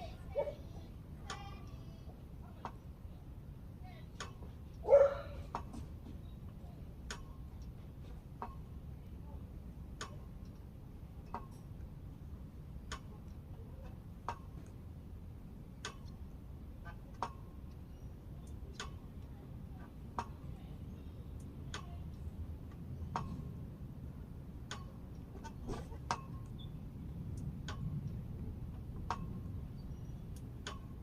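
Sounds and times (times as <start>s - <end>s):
low steady rumble: 0.0s - 31.0s.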